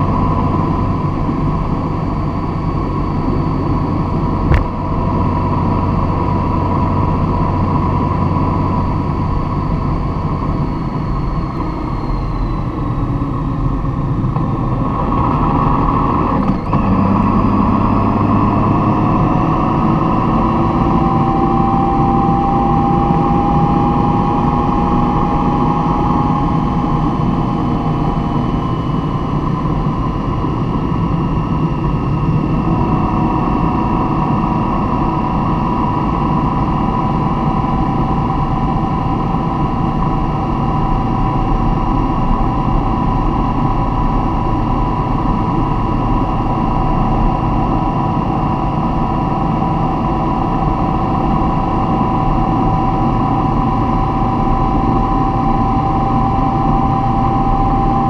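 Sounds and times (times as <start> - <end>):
constant whine: 0.0 - 58.0
vehicle engine and road noise: 0.0 - 58.0.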